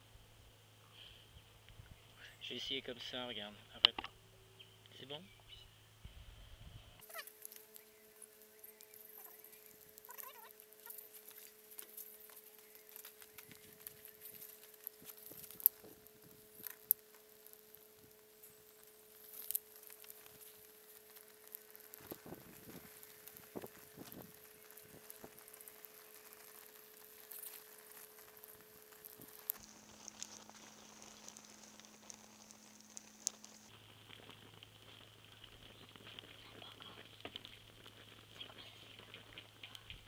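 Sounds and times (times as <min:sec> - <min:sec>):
fire crackling: 0:00.0 - 0:40.0.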